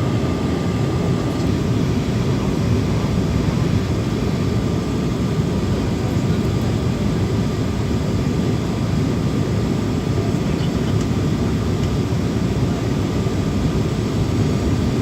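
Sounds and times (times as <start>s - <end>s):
airplane cabin engine drone: 0.0s - 15.0s
faint steady whine: 0.0s - 15.0s.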